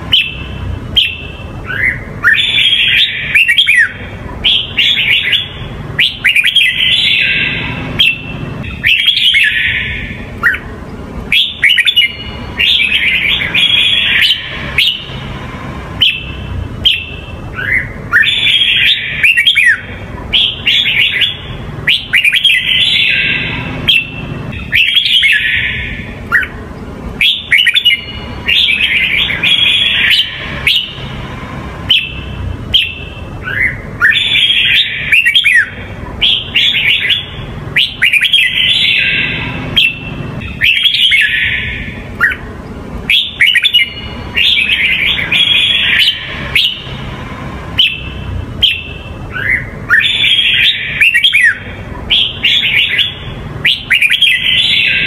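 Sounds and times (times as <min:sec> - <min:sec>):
bulbul singing whistled notes: 0:00.0 - 0:10.7, 0:11.3 - 0:15.4, 0:16.0 - 0:26.6, 0:27.2 - 0:31.2, 0:31.8 - 0:42.4, 0:43.1 - 0:47.1, 0:47.7 - 0:55.0.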